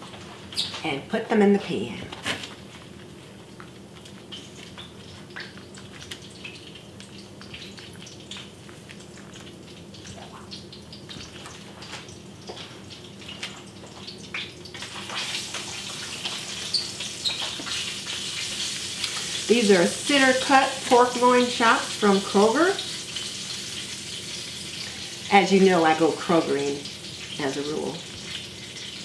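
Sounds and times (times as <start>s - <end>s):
meat sizzling in a pan: 4.1s - 29.0s.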